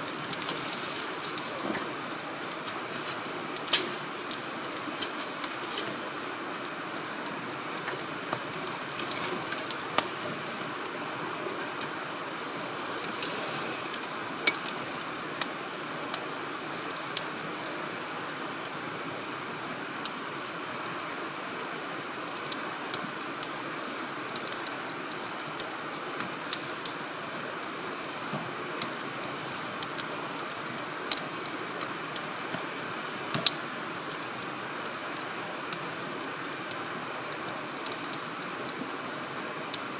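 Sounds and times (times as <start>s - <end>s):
steady hiss: 0.0s - 39.9s
wood fire crackling and popping: 0.0s - 39.9s.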